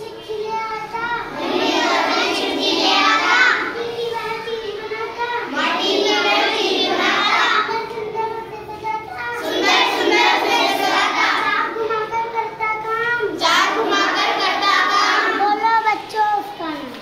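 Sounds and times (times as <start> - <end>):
children chanting in unison: 0.0 - 12.6, 13.2 - 15.9.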